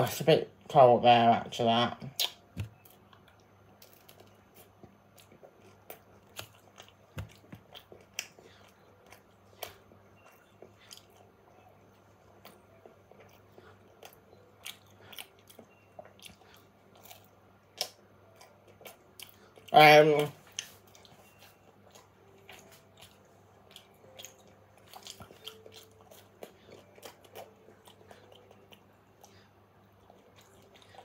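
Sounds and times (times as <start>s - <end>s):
person chewing pizza: 2.0s - 31.0s.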